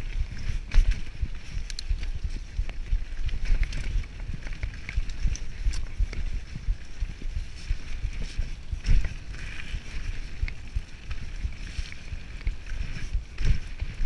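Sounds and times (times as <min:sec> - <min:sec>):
bike rattling over bumps: 0:00.0 - 0:14.0
wind buffeting microphone: 0:00.0 - 0:14.0.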